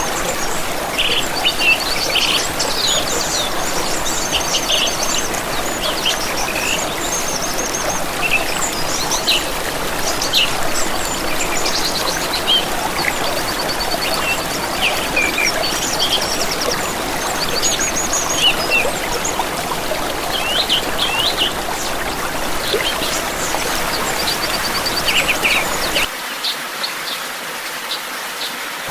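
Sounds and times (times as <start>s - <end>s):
songbirds chirping and trilling: 0.0s - 27.2s
running water: 0.0s - 28.9s.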